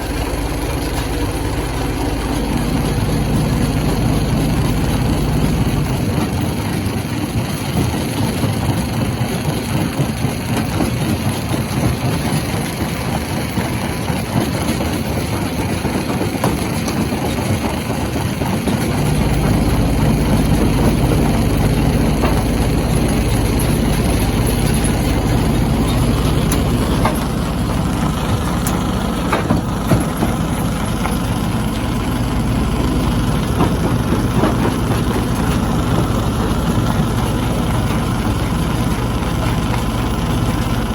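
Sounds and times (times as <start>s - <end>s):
stone crushing machinery humming: 0.0s - 40.9s.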